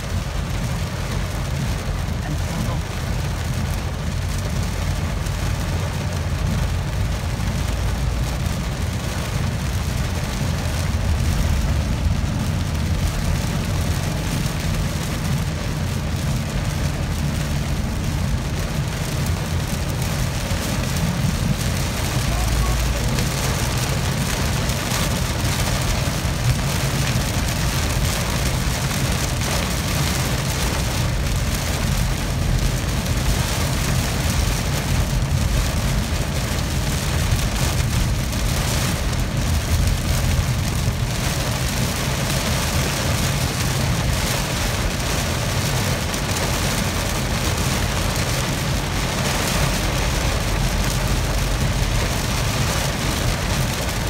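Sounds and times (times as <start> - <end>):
car rumbling on wet road: 0.0 - 54.0
heavy rain on a car roof: 0.0 - 54.0.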